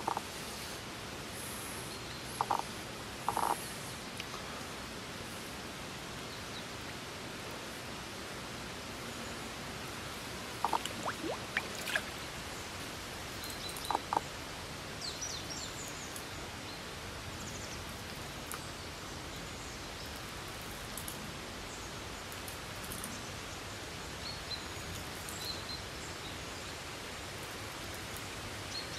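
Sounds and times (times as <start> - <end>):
outdoor background hiss: 0.0 - 28.9.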